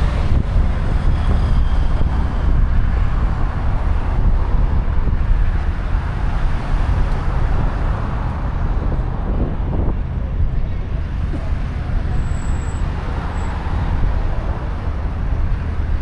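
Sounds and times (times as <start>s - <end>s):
road traffic noise: 0.0s - 16.0s
wind rumble on microphone: 0.0s - 16.0s.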